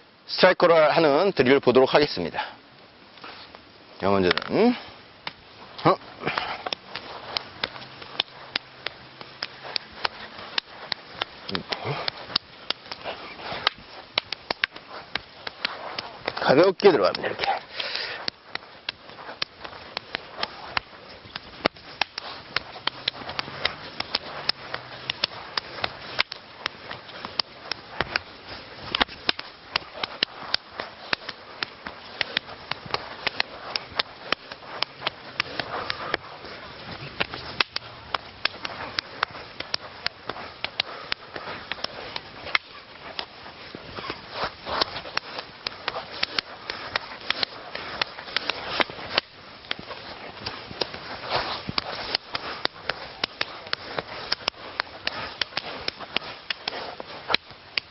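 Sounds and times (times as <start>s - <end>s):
wooden sticks clacking: 4.2s - 57.9s.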